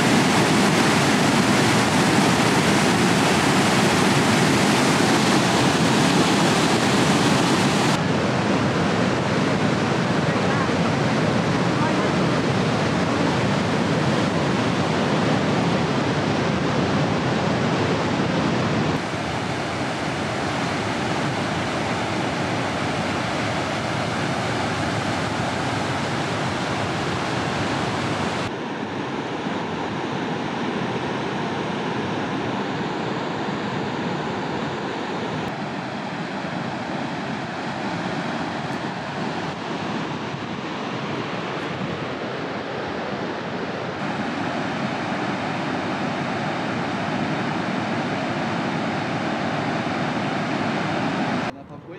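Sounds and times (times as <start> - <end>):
waterfall rushing water: 0.0 - 28.5, 33.9 - 51.5.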